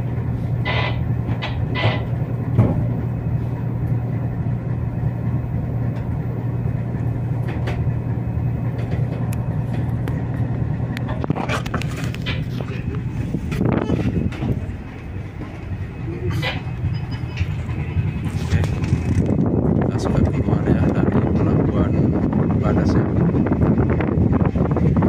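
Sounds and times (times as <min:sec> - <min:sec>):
ship engine droning: 0:00.0 - 0:25.0.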